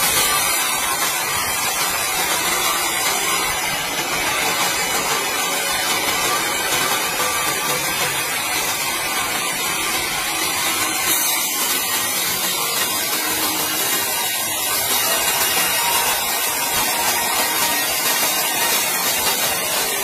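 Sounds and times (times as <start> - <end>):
band saw cutting log: 0.0 - 20.0
machinery running: 0.0 - 20.0.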